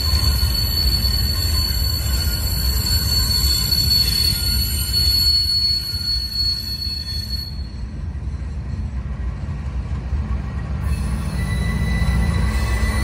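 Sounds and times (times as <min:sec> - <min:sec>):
high wheel squeal: 0:00.0 - 0:09.3, 0:10.8 - 0:13.0
train wheels rumbling on rails: 0:00.0 - 0:13.0.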